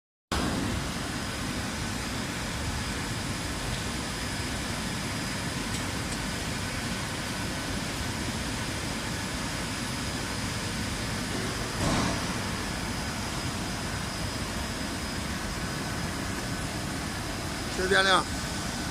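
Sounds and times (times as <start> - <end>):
coating machine running: 0.4 - 18.9.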